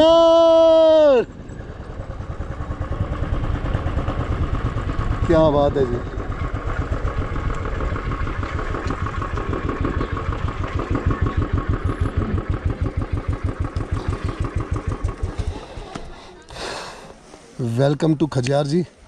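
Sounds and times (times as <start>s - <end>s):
motorcycle engine idling: 0.0s - 17.6s.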